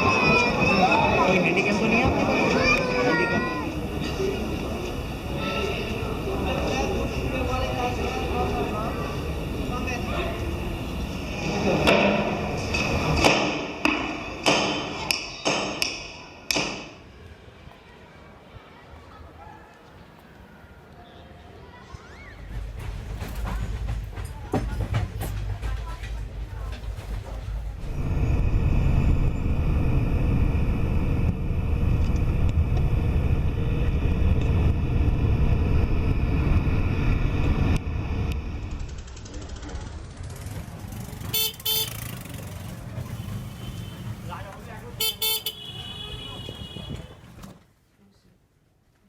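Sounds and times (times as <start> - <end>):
moving vehicle rumble: 0.0 - 15.2, 21.4 - 47.8.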